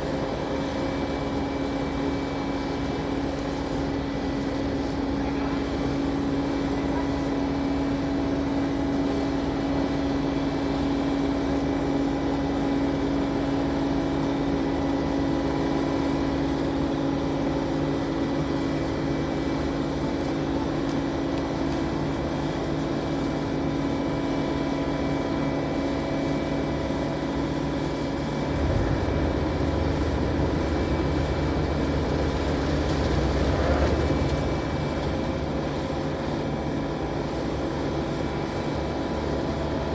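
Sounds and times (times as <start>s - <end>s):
crane diesel engine humming: 0.0s - 39.9s
deeper engine tone: 4.0s - 39.9s.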